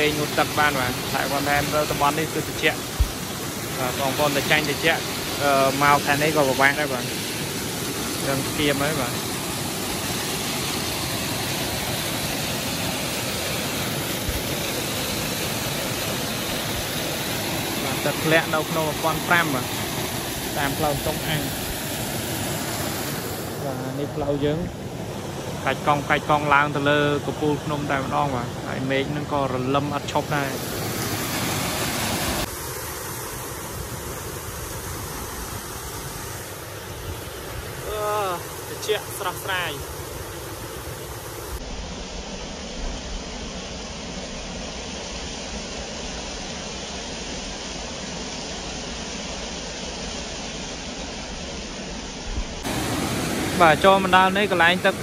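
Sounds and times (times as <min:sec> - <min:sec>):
water rushing down cascade: 0:00.0 - 0:55.0.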